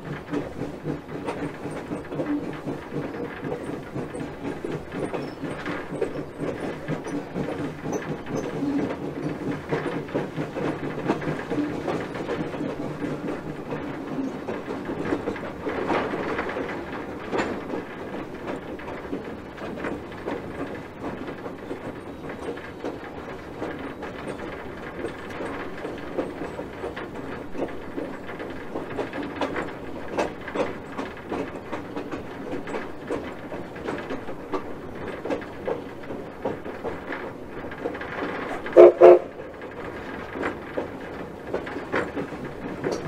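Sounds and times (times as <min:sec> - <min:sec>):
steam locomotive running: 0:00.0 - 0:43.0
wheels clacking over rail joints: 0:00.0 - 0:43.0.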